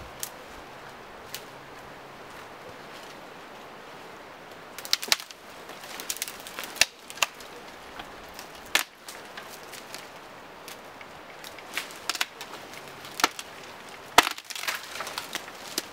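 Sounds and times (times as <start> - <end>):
dry branches cracking: 0.0 - 3.3, 4.4 - 15.9
outdoor hiss: 0.0 - 15.9
twigs and brush rustling: 0.0 - 15.9.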